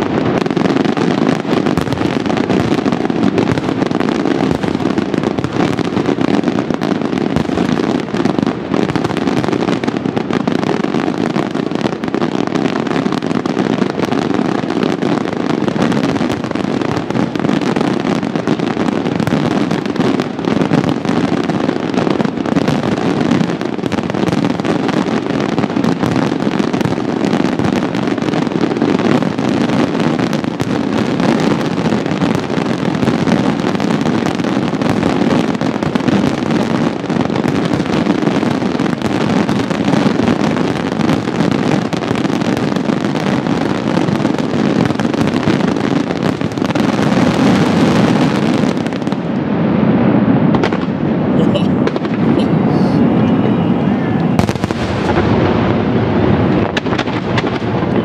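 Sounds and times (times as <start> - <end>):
fireworks bangs barrage: 0.0 - 58.0.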